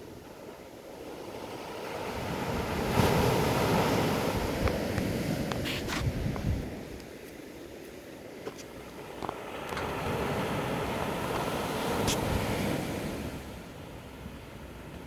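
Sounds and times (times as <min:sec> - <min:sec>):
waves washing in: 0:00.0 - 0:15.0.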